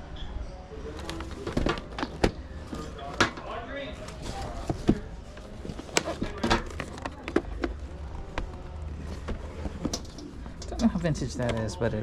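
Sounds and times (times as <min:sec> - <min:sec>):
items clattering onto a cart: 0:00.9 - 0:11.8.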